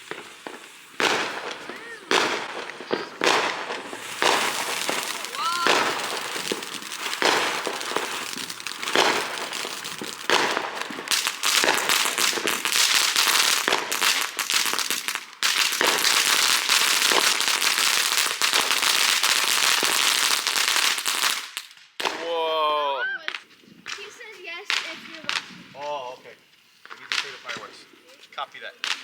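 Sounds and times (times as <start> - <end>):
fireworks crackling: 0.0 - 29.0
fireworks popping: 0.0 - 29.0.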